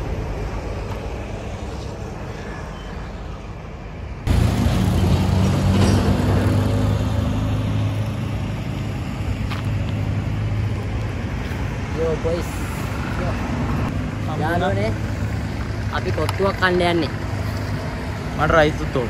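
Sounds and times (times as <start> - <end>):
traffic or engine hum: 0.0 - 19.0.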